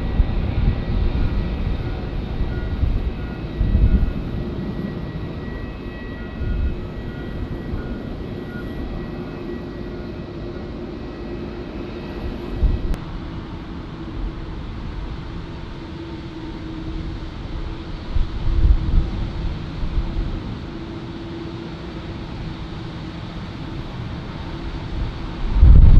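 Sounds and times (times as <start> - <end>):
distant jet engines rumbling: 0.0 - 25.9.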